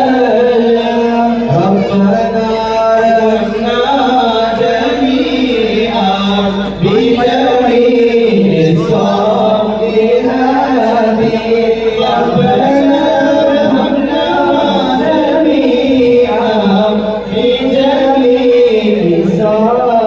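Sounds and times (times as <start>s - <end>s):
men singing devotional song: 0.0s - 20.0s.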